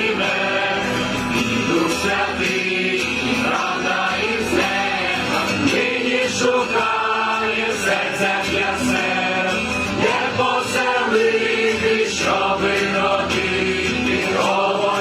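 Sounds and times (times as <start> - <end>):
choir singing a carol: 0.0 - 15.0.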